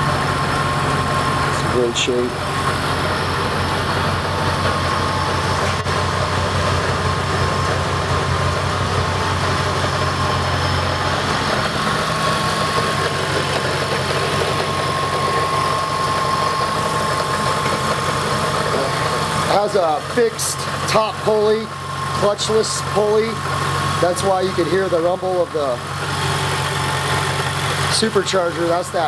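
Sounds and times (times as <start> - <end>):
car engine idling: 0.0 - 29.0
supercharger high whine: 0.0 - 29.0.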